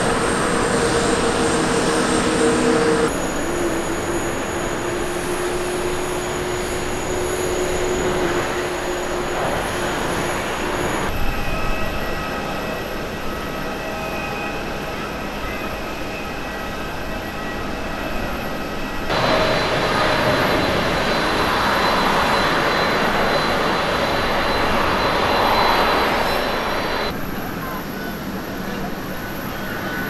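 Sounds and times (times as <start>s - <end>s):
airliner taxiing: 0.0s - 30.0s
jet engines whining: 0.0s - 30.0s.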